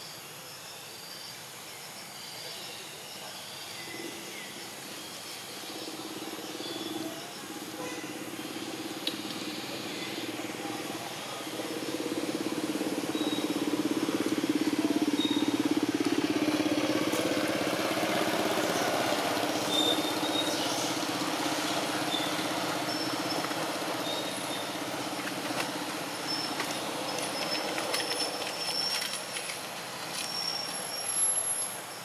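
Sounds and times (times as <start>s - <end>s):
vehicle engine drone: 3.4s - 32.0s.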